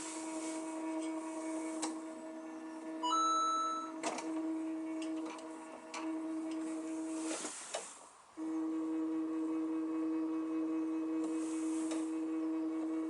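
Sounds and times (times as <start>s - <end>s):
printer humming: 0.0s - 13.0s.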